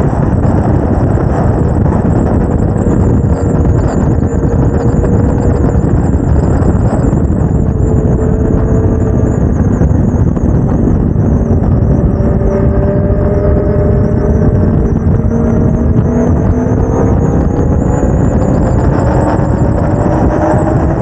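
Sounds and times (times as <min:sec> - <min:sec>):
motorcycle engine humming: 0:00.0 - 0:21.0
wind buffeting microphone: 0:00.0 - 0:21.0.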